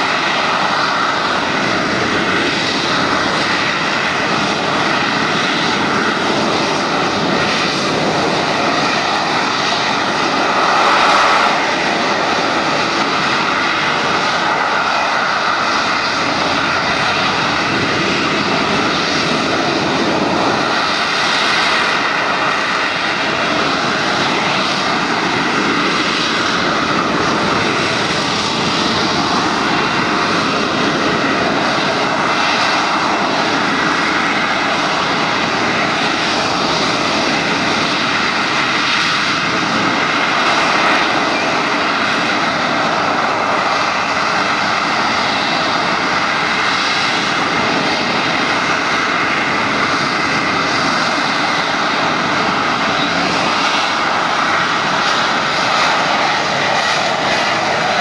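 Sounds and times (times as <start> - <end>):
jet engine roaring: 0.0 - 58.0
jet engine whine: 0.0 - 58.0.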